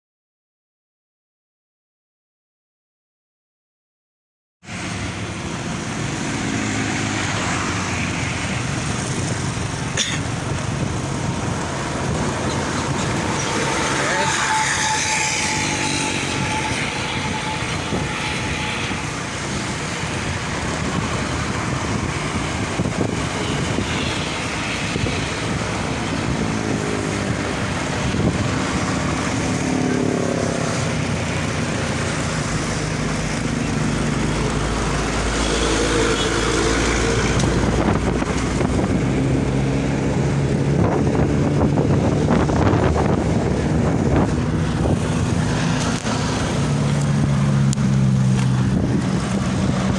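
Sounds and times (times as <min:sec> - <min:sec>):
vehicle engines revving: 0:04.7 - 0:49.9.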